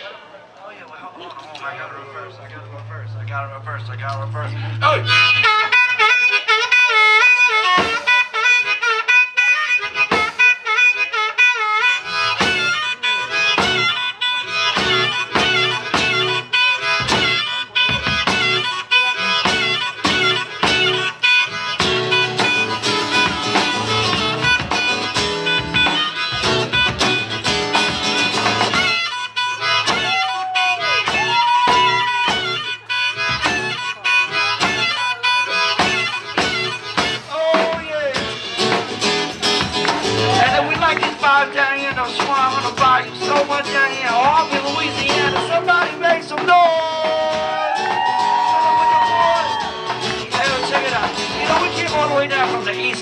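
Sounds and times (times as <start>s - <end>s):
acoustic guitar: 1.4s - 53.0s
blues harmonica solo: 1.9s - 53.0s
drum kit beat: 4.5s - 8.8s, 9.8s - 10.7s, 12.0s - 53.0s.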